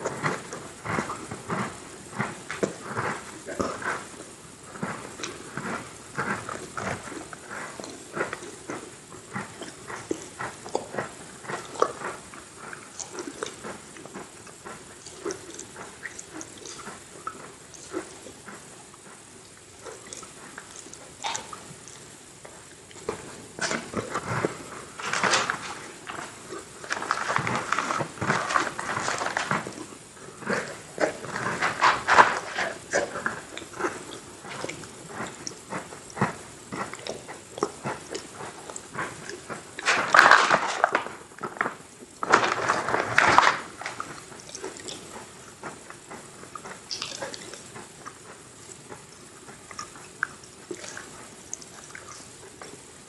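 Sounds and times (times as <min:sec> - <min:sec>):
chewing crunchy cookies: 0:00.0 - 0:53.0.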